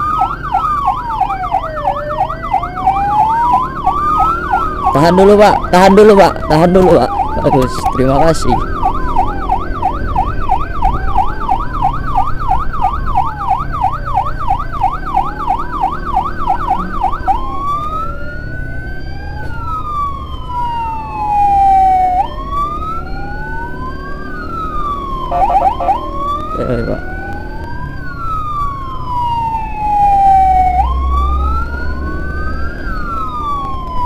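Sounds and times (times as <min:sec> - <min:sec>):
ambulance siren yelping: 0:00.0 - 0:34.0
siren wailing: 0:00.0 - 0:34.0.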